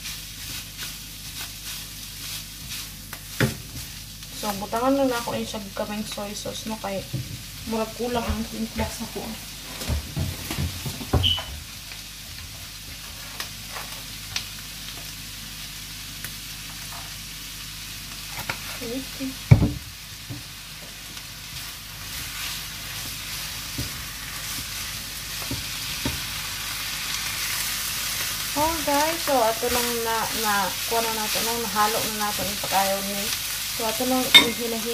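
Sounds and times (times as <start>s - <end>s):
fried rice sizzling in a pan: 0.0s - 34.9s.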